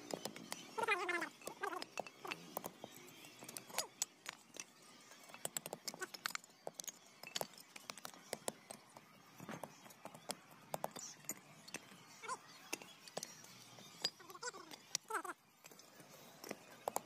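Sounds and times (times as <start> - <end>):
brick pieces clacking: 0.0 - 17.0.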